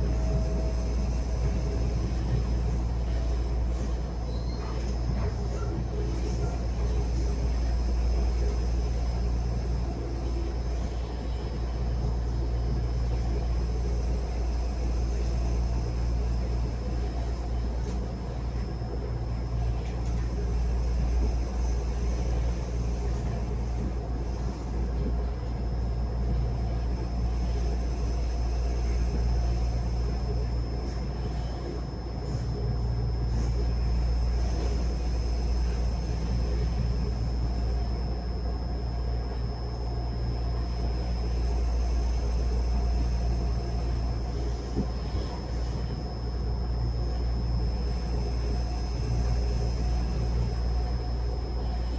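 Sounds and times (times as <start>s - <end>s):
high steady whine: 0.0s - 51.9s
train running rumble: 0.0s - 51.9s.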